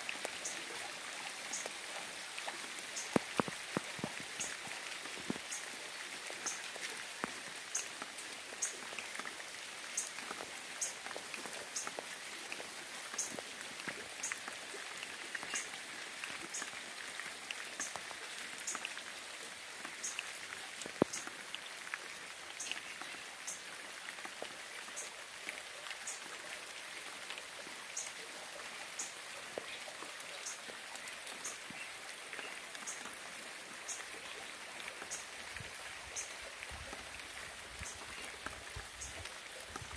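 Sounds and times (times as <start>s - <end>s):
raindrops striking close by: 0.0s - 39.9s
steady rain falling: 0.0s - 39.9s.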